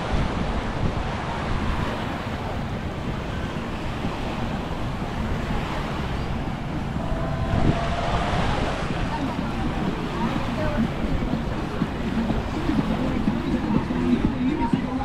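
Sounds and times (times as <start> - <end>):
small waves washing onto sand: 0.0 - 15.0
wind buffeting microphone: 0.0 - 15.0.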